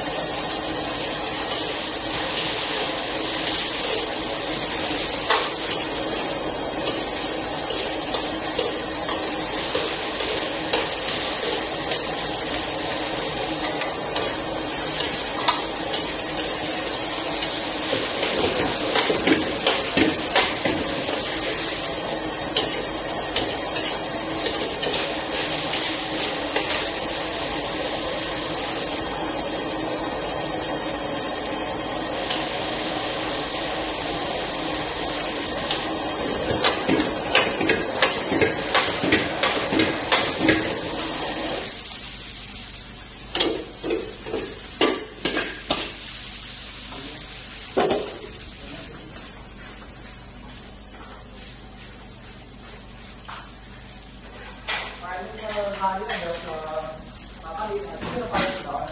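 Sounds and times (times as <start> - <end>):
sizzling and burner hiss: 0.0 - 58.9.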